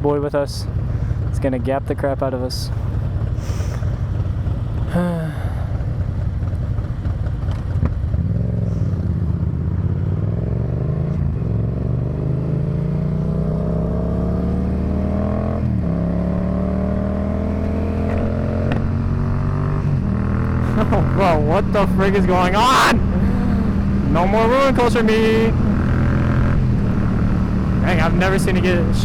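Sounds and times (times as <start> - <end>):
motorcycle engine accelerating: 0.7 - 29.0.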